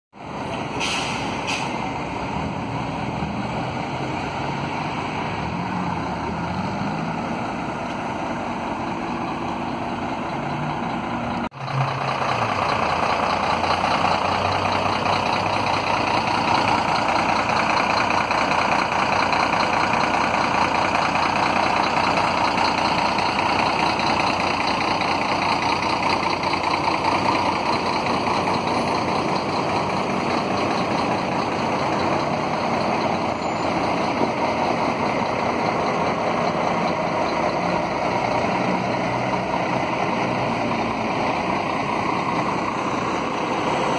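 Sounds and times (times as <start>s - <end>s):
diesel bus engines idling: 0.2s - 43.9s.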